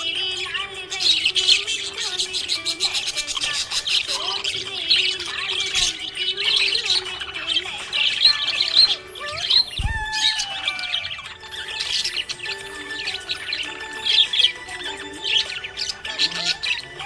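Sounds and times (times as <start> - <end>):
budgerigars chirping and warbling: 0.0 - 17.0.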